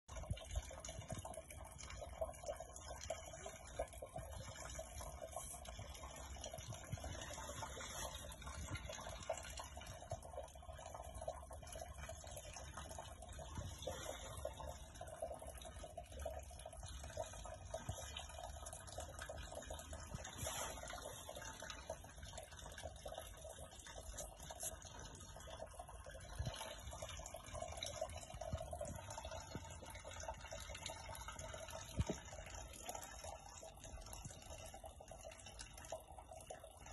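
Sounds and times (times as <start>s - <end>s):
water trickling: 0.0s - 36.9s.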